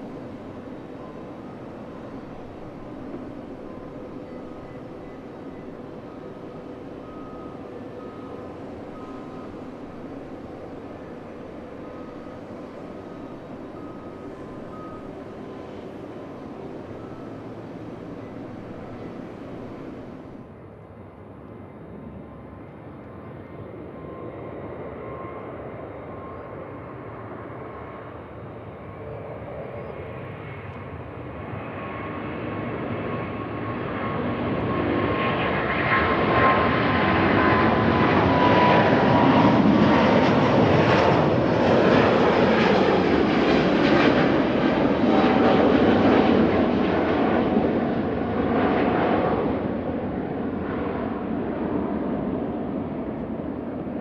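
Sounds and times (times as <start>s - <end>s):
jet airliner engines passing: 0.0s - 54.0s.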